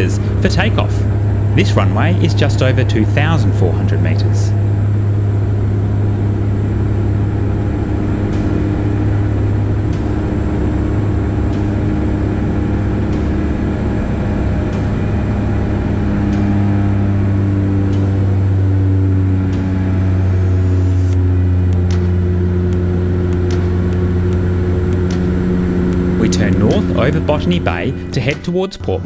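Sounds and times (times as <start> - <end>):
turboprop cabin drone: 0.0 - 29.0.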